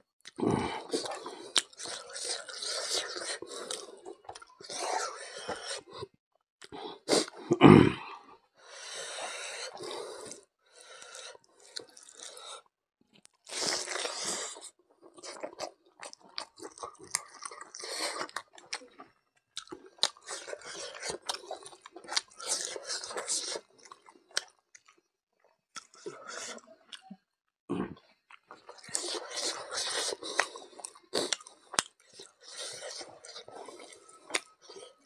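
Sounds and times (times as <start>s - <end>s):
person chewing: 0.2s - 7.5s, 9.1s - 12.6s, 13.2s - 25.0s, 25.7s - 27.2s, 27.8s - 35.0s.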